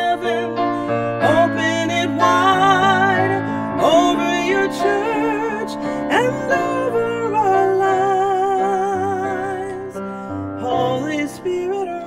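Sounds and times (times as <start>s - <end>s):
person singing with vibrato: 0.0s - 12.0s
piano chords: 0.0s - 12.0s.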